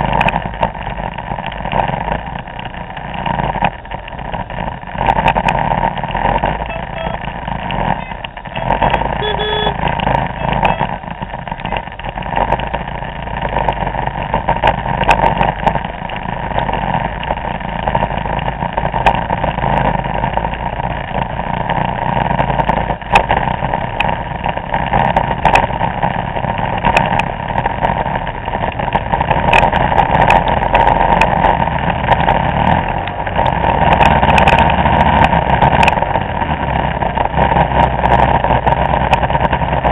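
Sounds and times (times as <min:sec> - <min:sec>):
scooter engines roaring: 0:00.0 - 0:39.9
wind noise on microphone: 0:00.0 - 0:39.9.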